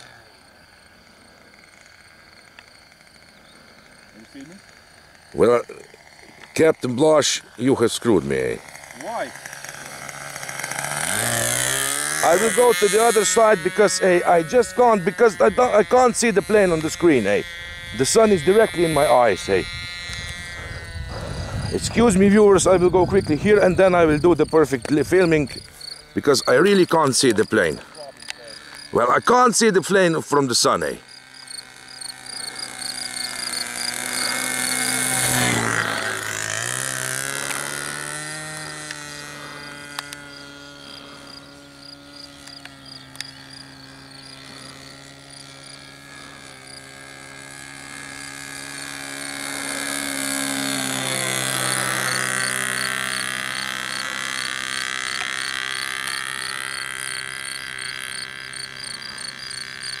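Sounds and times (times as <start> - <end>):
model plane engine flying past: 0.0 - 60.0.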